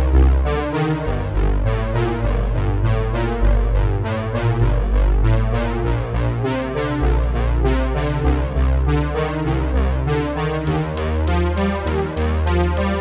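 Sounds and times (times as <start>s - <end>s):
synthesizer music with heavy bass: 0.0s - 13.0s.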